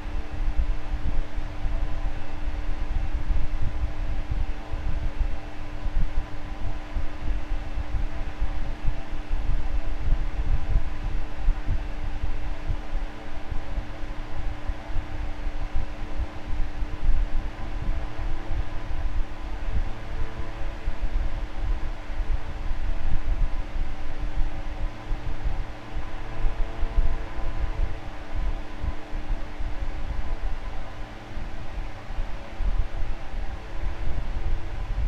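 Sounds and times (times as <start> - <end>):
electric fan running: 0.0 - 35.0.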